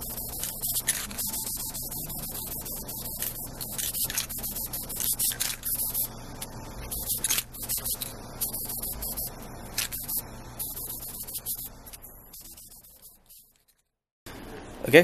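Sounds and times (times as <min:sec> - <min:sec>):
aerosol can spraying: 0:00.0 - 0:06.1, 0:06.9 - 0:13.5.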